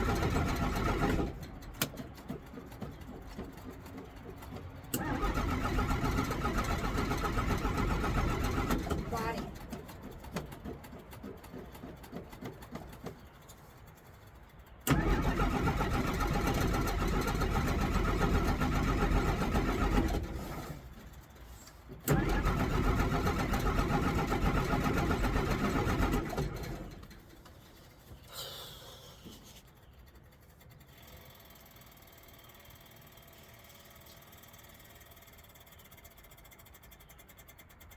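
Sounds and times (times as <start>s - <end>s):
engine cranking and running: 0.0s - 37.9s.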